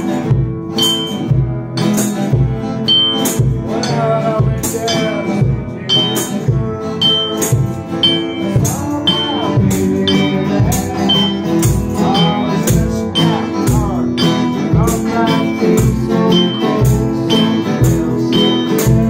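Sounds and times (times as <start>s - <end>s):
acoustic guitars strumming: 0.0s - 19.0s
low beat: 0.2s - 19.0s
man singing: 3.6s - 19.0s.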